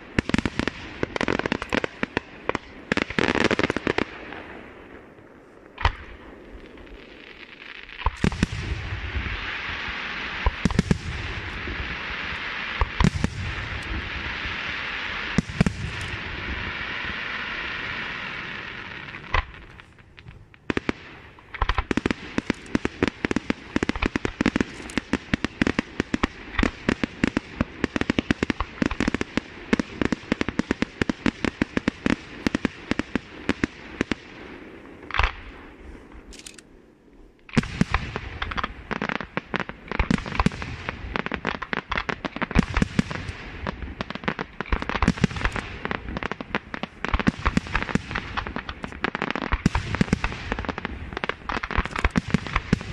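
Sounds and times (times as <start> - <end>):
fireworks bangs: 0.0 - 36.3, 37.5 - 52.9.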